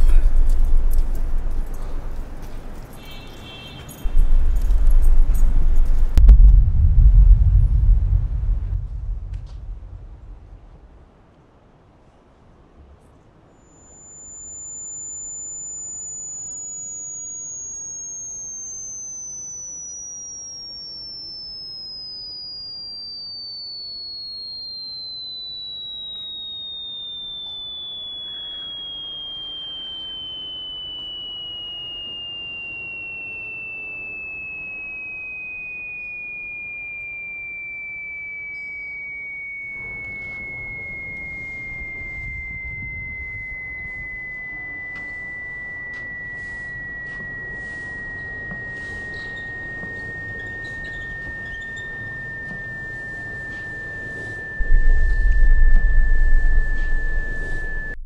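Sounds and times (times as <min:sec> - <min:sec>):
high electronic tone falling in pitch: 0:00.0 - 0:11.0, 0:13.6 - 0:58.0.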